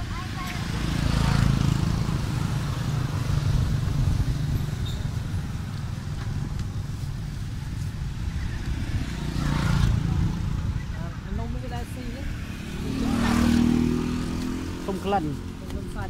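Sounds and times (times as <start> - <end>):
motorbikes passing: 0.0 - 16.0.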